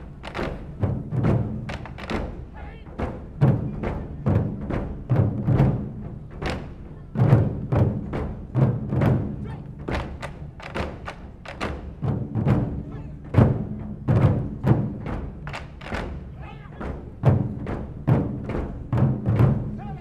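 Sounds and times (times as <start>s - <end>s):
taiko drums booming: 0.0s - 20.0s.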